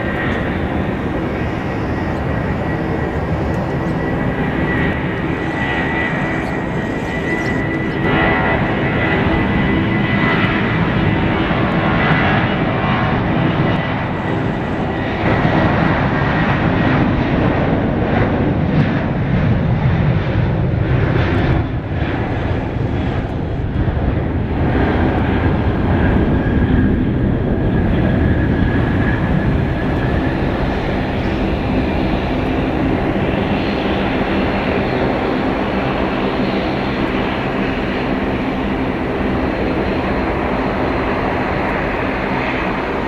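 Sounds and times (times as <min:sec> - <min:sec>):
jet engines at takeoff: 0:00.0 - 0:43.0.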